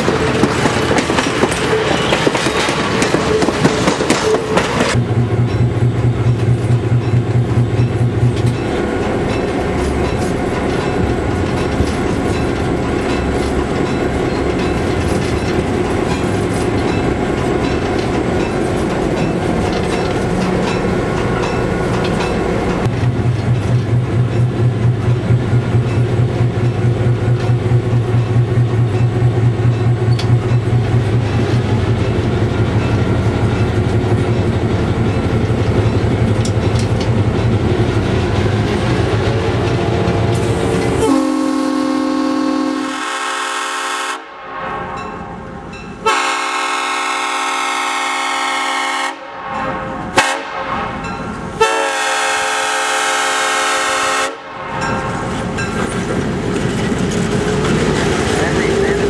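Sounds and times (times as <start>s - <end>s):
train wheels clickety-clack: 0.0s - 42.2s, 52.8s - 59.0s
locomotive engine drone: 0.0s - 42.8s, 54.4s - 59.0s.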